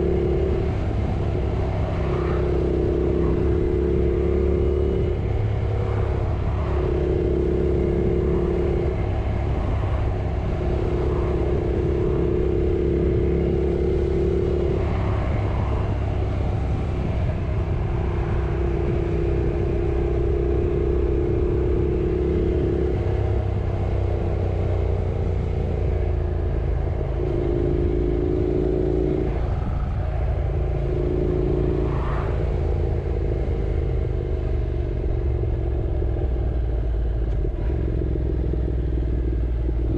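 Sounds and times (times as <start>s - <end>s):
constant low rumble: 0.0s - 39.9s
motorcycle engine running: 0.0s - 39.9s.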